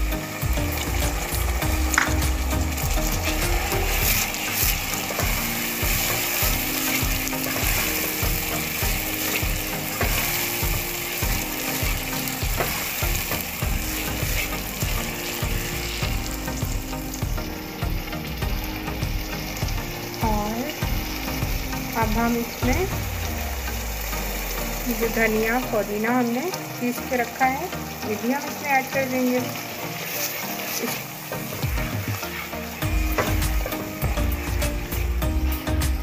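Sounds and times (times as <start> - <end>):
paste sizzling in hot oil: 0.0 - 36.0.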